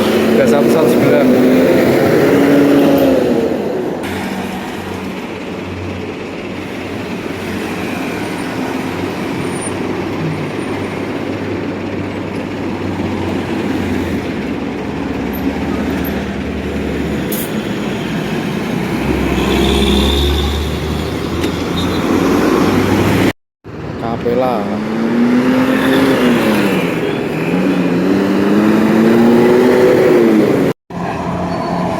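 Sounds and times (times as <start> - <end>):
diesel buses passing: 0.0 - 31.9
road noise: 0.0 - 31.9.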